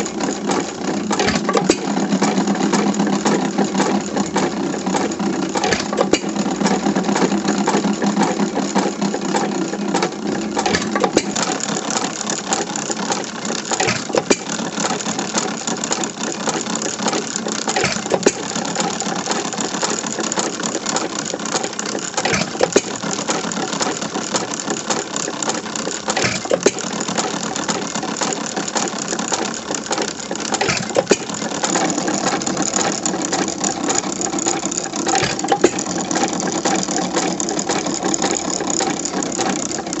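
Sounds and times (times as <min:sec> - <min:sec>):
old engine running with clatter: 0:00.0 - 0:40.0.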